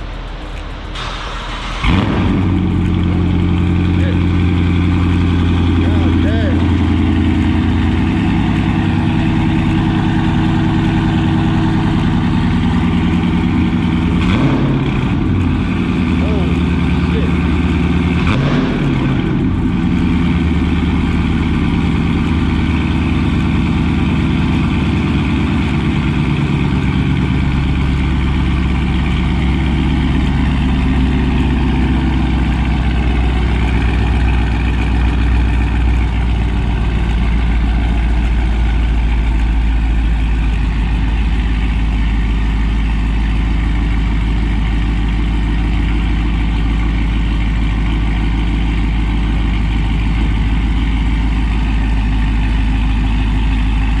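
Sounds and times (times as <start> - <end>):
car engine idling loudly: 0.0 - 54.0.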